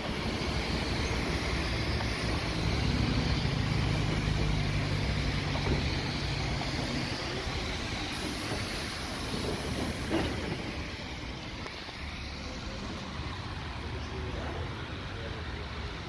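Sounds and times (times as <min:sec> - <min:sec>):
tram wheels on rails: 0:00.0 - 0:16.0.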